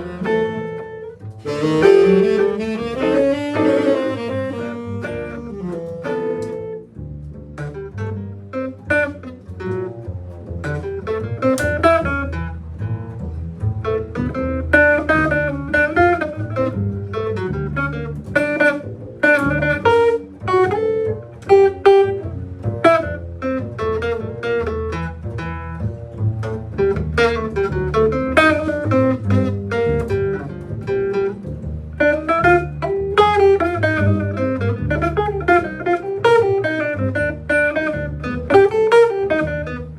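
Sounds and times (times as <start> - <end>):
guitar plucked melody: 0.0 - 39.9
walking bass line: 0.0 - 39.9.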